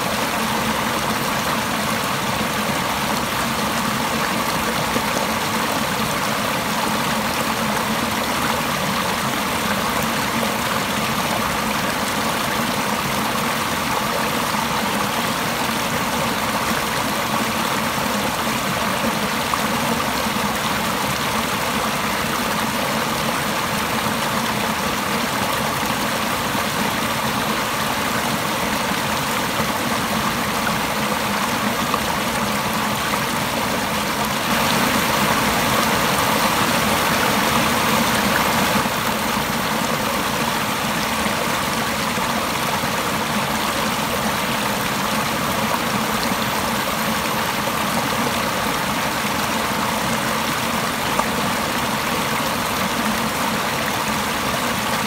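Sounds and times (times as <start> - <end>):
stream splashing over rocks: 0.0 - 55.0.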